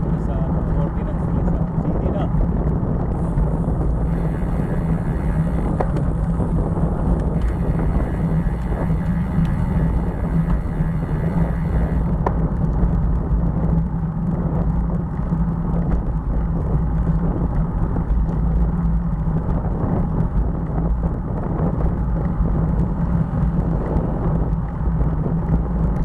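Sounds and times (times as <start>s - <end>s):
bicycle road noise: 0.0s - 26.0s
wind on microphone: 0.0s - 26.0s.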